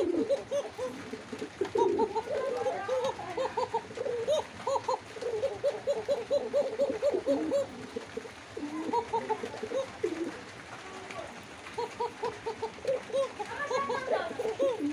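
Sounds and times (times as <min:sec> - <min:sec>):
pigeon cooing: 0:00.0 - 0:14.9.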